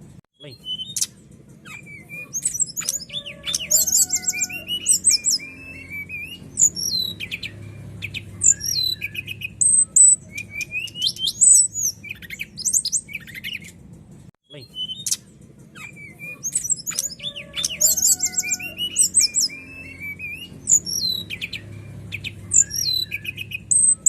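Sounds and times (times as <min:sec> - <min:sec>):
bird singing whistled song: 0:00.4 - 0:13.8, 0:14.5 - 0:24.0.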